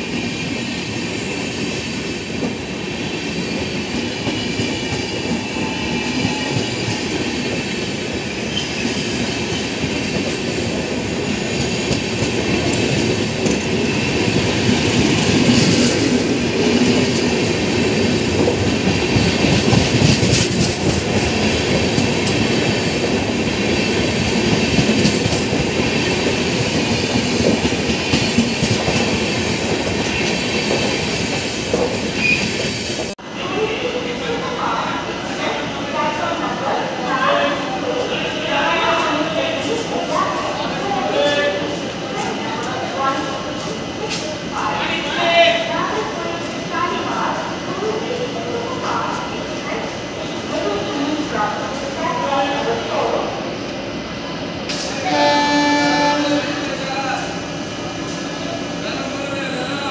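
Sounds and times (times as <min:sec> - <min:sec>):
train wheels rolling on rails: 0:00.0 - 0:33.2, 0:36.8 - 0:59.9.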